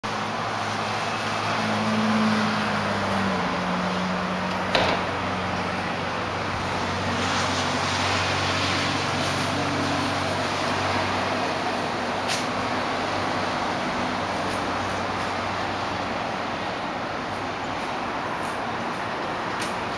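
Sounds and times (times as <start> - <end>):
distant road traffic: 0.0 - 19.9.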